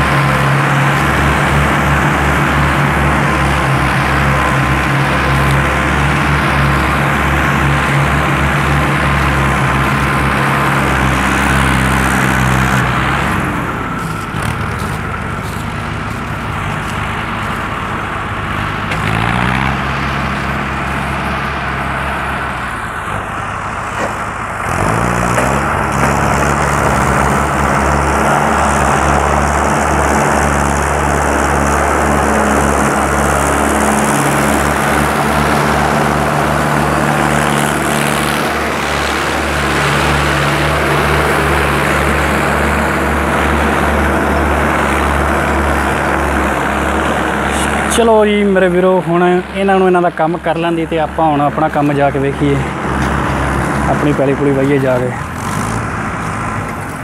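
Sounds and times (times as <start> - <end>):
tractor diesel engines under load: 0.0 - 57.0.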